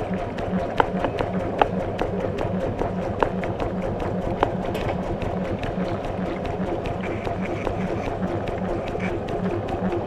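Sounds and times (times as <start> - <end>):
sharp clicks: 0.0 - 10.0
washing machine churning water: 0.0 - 10.0.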